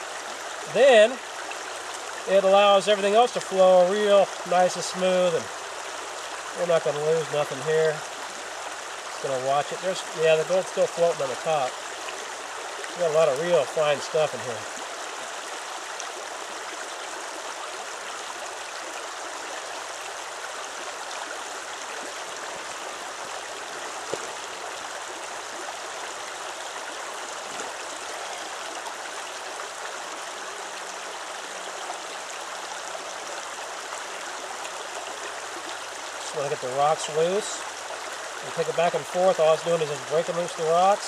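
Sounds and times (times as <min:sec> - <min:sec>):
river flowing over rocks: 0:00.0 - 0:41.0.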